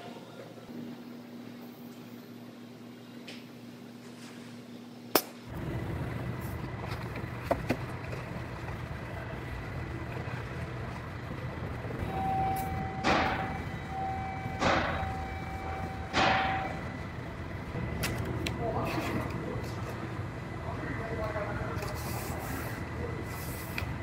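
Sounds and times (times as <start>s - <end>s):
workshop background hum: 0.0s - 24.0s.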